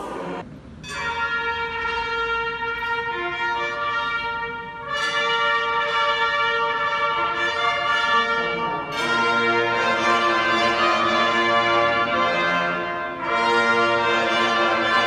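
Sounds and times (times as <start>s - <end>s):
sustained instrumental chords: 0.0s - 15.0s.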